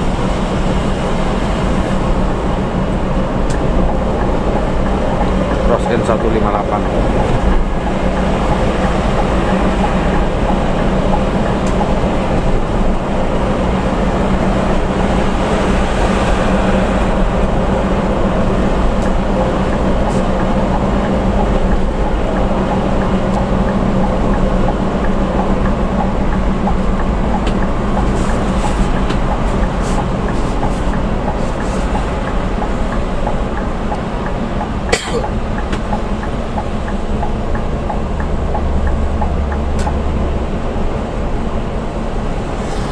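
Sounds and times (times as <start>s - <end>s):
coach engine and tyres droning: 0.0s - 42.9s.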